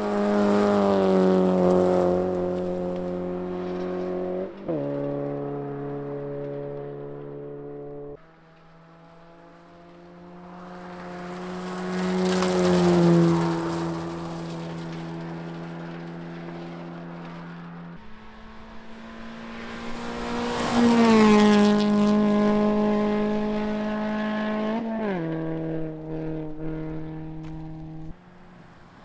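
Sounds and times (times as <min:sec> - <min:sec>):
rally car engine passing by: 0:00.0 - 0:29.0.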